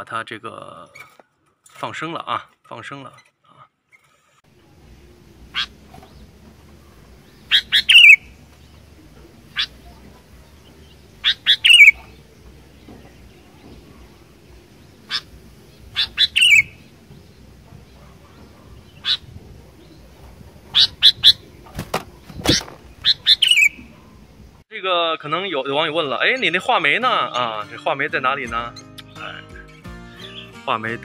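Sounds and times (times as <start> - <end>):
bulbul singing: 4.5 - 24.6, 25.2 - 30.7.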